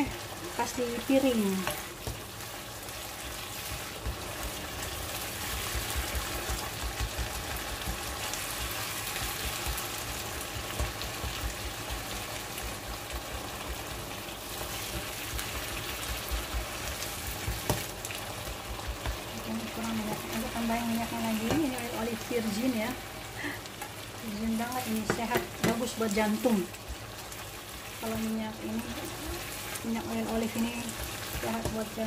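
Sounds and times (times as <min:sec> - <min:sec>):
sauce sizzling in a pan: 0:00.0 - 0:32.0.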